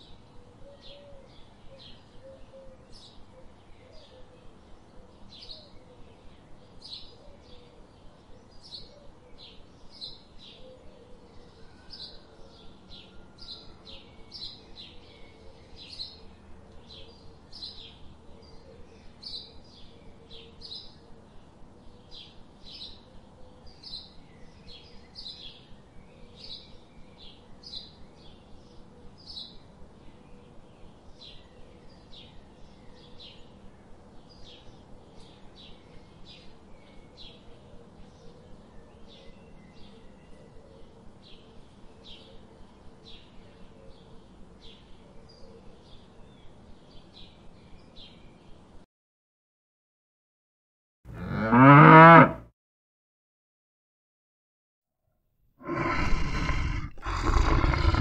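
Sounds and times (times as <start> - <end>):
songbird chirping: 0.0 - 48.8.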